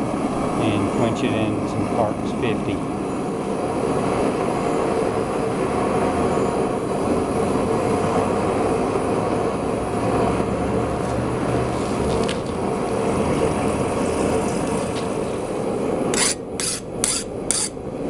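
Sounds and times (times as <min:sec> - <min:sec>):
forge roaring steadily: 0:00.0 - 0:18.0.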